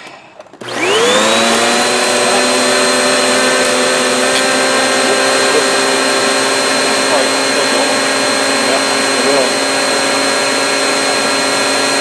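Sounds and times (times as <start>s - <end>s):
vacuum cleaner motor whine: 0.6s - 12.0s.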